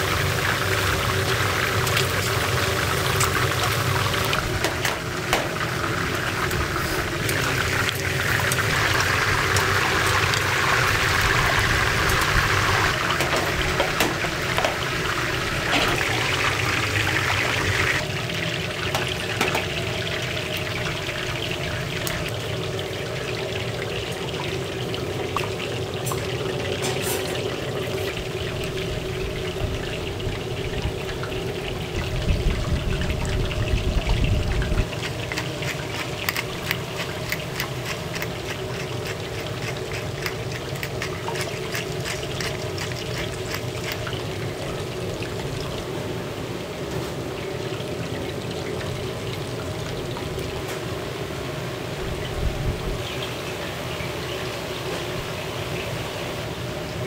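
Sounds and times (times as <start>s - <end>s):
pork sizzling on grill: 0.0s - 55.8s.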